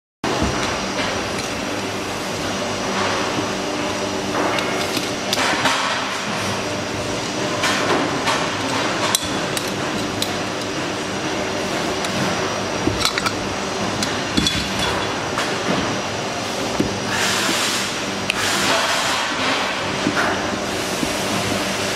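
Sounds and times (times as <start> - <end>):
steady background hum: 0.2 - 21.9.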